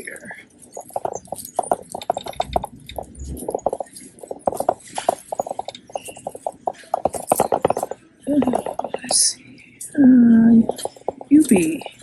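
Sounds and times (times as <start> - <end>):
dog claws clicking on hard floor: 0.6 - 9.3, 10.7 - 12.0.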